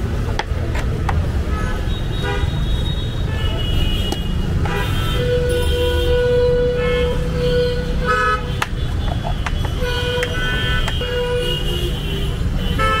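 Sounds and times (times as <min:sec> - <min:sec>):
traffic rumble: 0:00.0 - 0:13.0
vehicle horns honking: 0:01.5 - 0:13.0.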